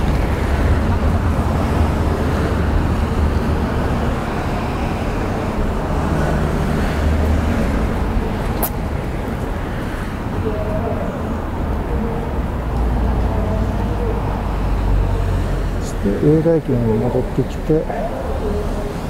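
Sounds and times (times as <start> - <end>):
cars passing on road: 0.0 - 19.0.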